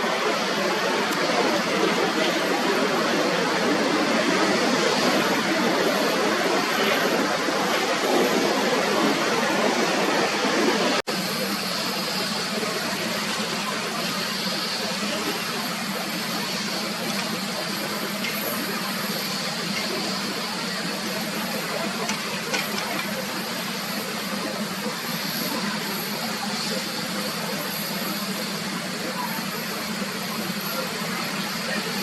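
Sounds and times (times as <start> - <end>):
jet engine rushing: 0.0 - 32.0.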